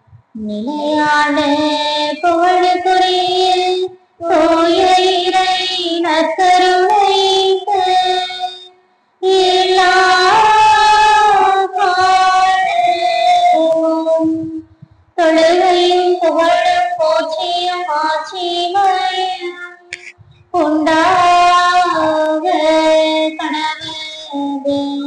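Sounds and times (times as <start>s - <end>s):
women singing a hymn: 0.4s - 25.0s.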